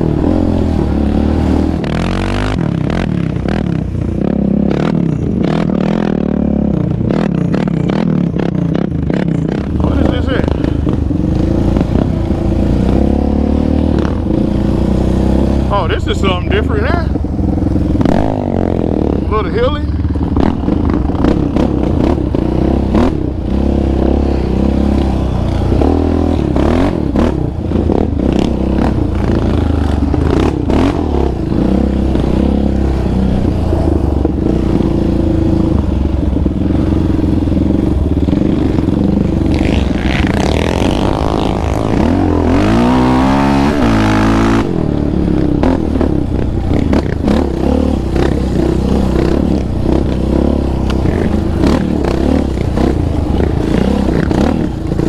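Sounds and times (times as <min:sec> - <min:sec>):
quad engine under throttle: 0:00.0 - 0:55.0.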